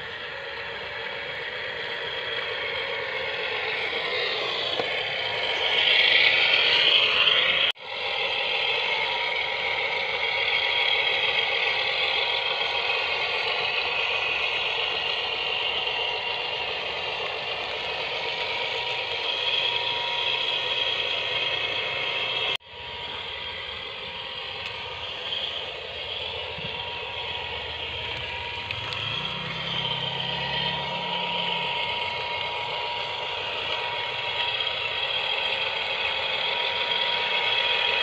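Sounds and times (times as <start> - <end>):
model truck motors whirring: 0.0 - 38.0.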